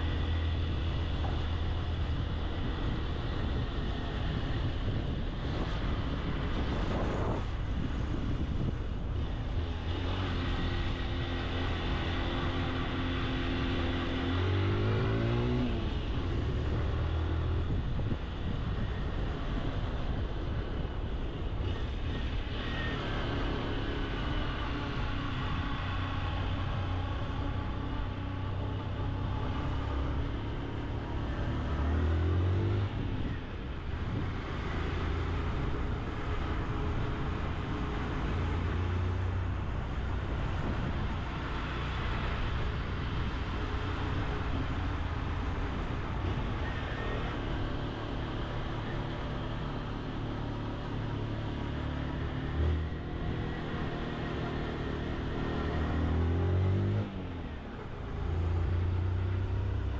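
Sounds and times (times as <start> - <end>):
wind noise on microphone: 0.0 - 49.4
motorcycle engine hum: 0.0 - 59.9.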